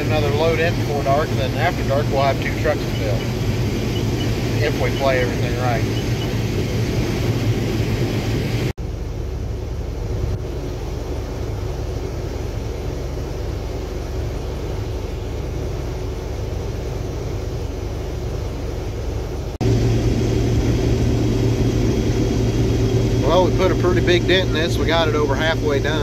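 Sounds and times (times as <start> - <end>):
combine harvester rumble: 0.0 - 26.0
field noise: 0.0 - 26.0.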